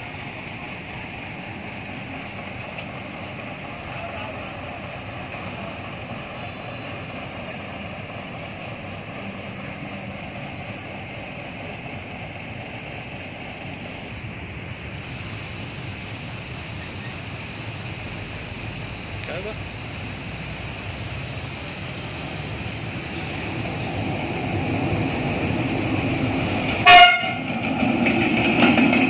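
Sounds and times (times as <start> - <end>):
steady hiss: 0.0 - 26.8
road vehicle engines: 0.0 - 29.0
train rumble: 0.0 - 29.0.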